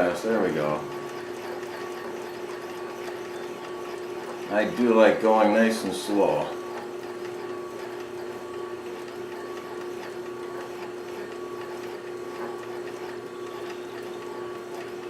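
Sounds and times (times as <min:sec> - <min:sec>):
sewing machine humming: 0:00.0 - 0:15.0.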